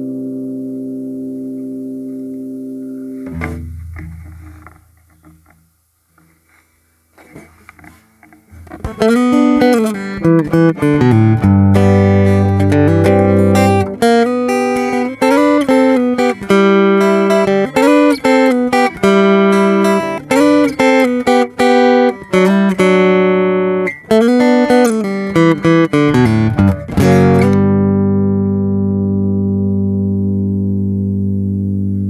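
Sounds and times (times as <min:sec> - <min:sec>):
acoustic guitar melody: 0:00.0 - 0:32.0.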